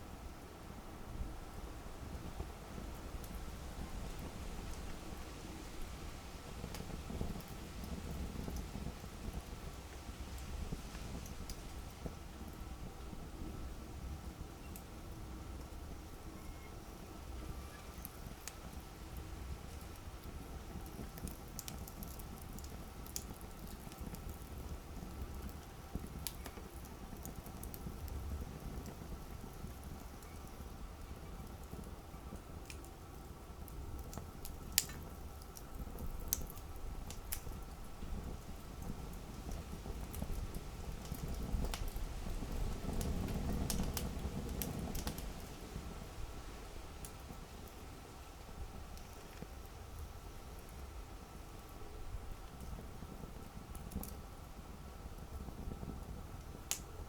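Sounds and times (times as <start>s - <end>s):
rumble of flames: 0.0s - 57.0s
wood crackling and popping: 1.4s - 57.0s.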